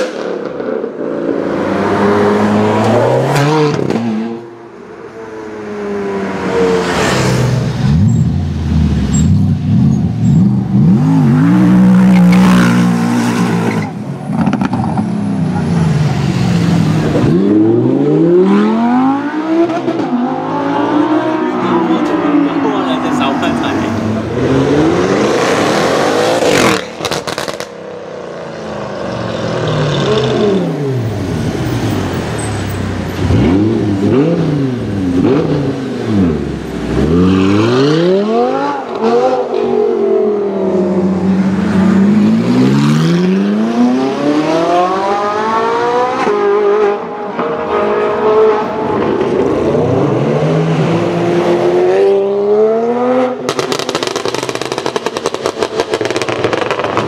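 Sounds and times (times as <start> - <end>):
car engines revving and accelerating: 0.0 - 57.0.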